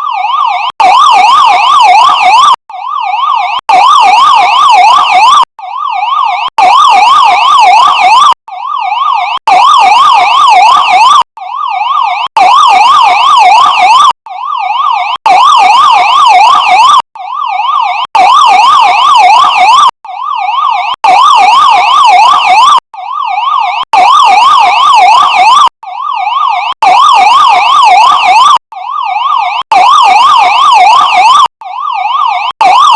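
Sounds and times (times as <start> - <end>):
police siren warbling: 0.0 - 32.9.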